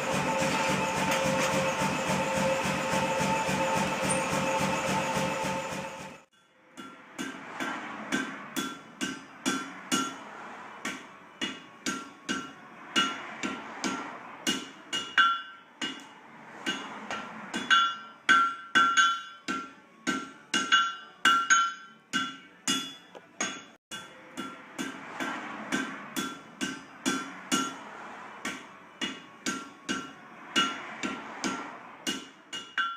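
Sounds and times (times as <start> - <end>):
hammer striking metal on anvil: 0.0 - 32.9.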